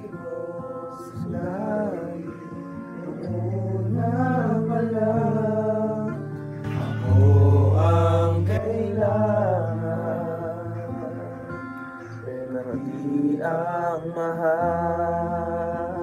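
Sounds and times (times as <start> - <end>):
acoustic guitar: 0.0 - 16.0
person singing: 0.0 - 16.0.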